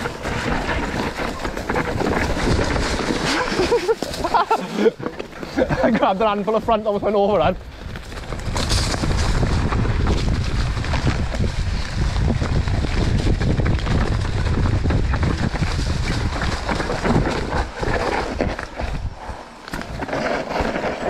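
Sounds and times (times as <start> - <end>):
wind buffeting microphone: 0.0 - 4.6, 5.5 - 20.1
bike knocking and rattling: 0.0 - 21.0
tyres rumbling on dirt trail: 0.0 - 21.0.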